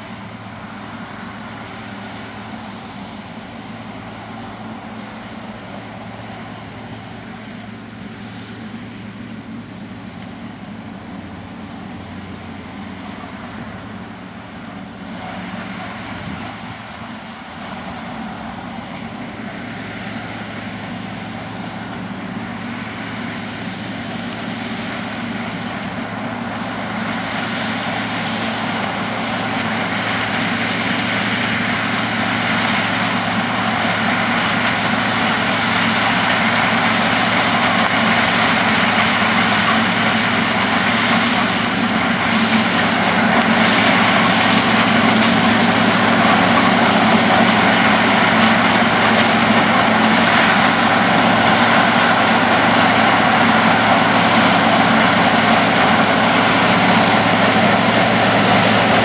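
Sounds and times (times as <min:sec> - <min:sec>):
diesel engine hum: 0:00.0 - 0:59.0.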